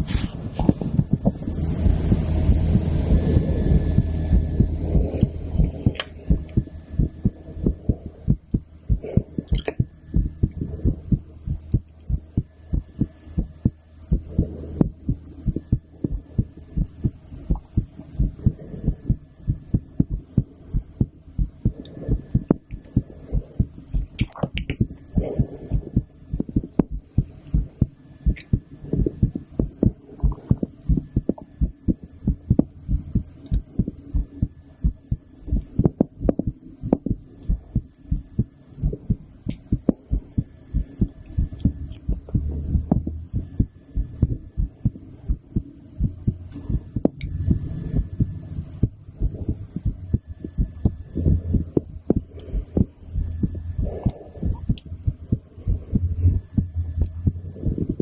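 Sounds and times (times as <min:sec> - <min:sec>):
heartbeat through stethoscope: 0:00.0 - 0:58.0.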